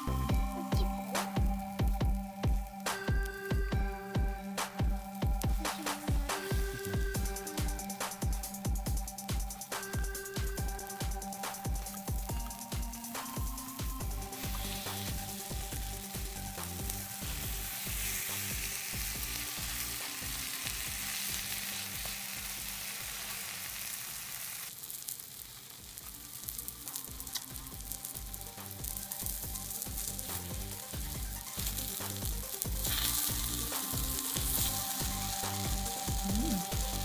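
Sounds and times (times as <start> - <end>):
light background music: 0.0 - 24.0, 26.0 - 37.0
batter sizzling in a pan: 0.8 - 37.0.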